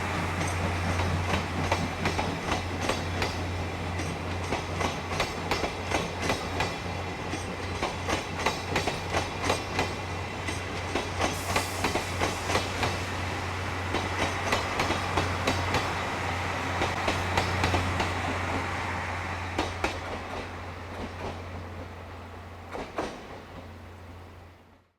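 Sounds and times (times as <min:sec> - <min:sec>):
train wheels clicking over rail joints: 0:00.0 - 0:18.8, 0:19.4 - 0:24.4.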